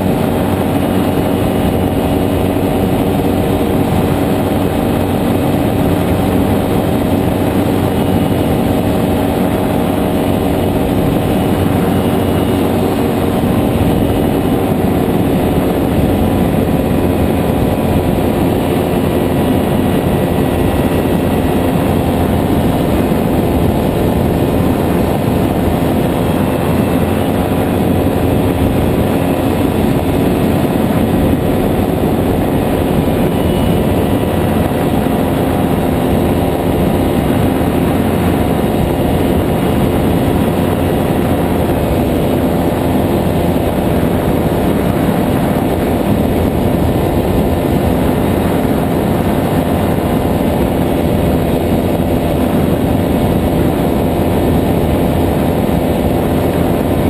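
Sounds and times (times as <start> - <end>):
two-stroke engine and propeller: 0.0 - 57.0.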